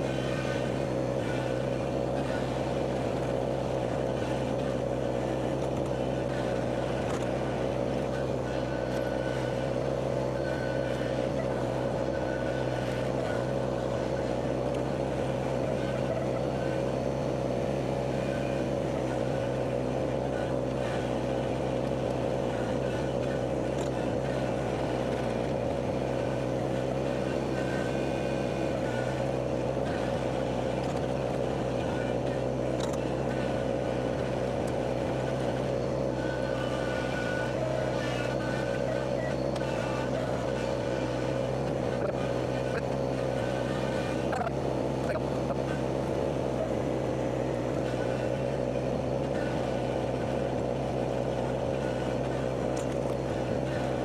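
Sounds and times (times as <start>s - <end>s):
engine droning steadily: 0.0s - 54.0s.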